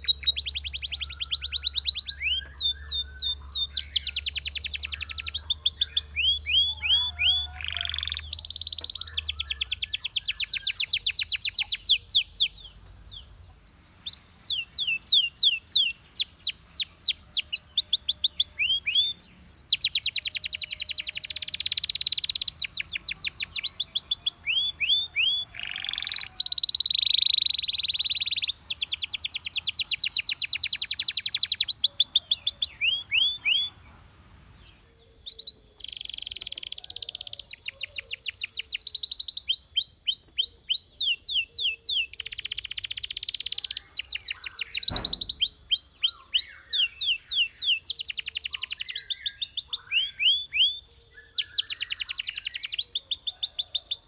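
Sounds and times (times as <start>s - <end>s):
canary singing trilled phrases: 0.0s - 34.1s, 34.7s - 54.0s.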